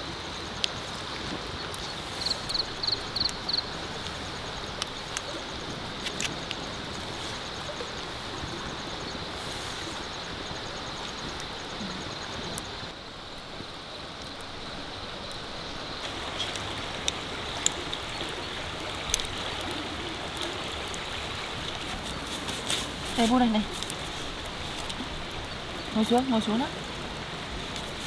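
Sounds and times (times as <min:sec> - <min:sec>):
flowing water: 0:00.0 - 0:28.0.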